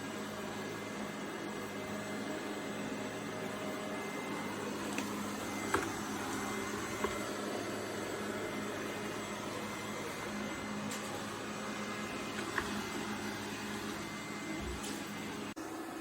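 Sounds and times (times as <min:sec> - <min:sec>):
robot vacuum motor hum: 0:00.0 - 0:16.0.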